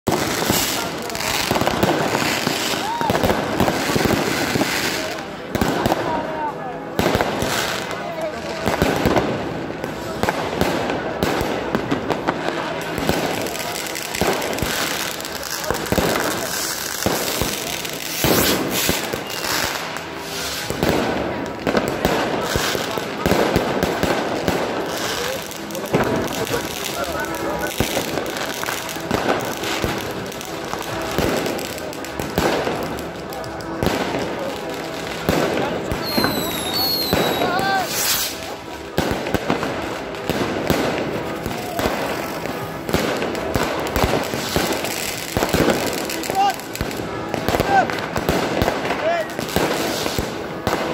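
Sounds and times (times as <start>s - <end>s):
firework bangs: 0.0s - 50.9s
fireworks crackling and hissing: 0.0s - 50.9s.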